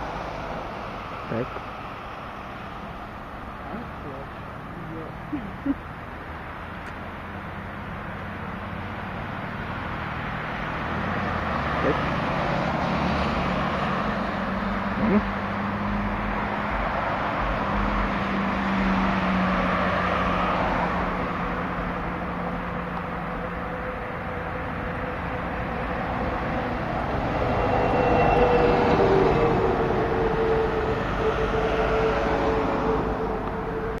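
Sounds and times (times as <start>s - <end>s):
cars passing: 0.0s - 34.0s.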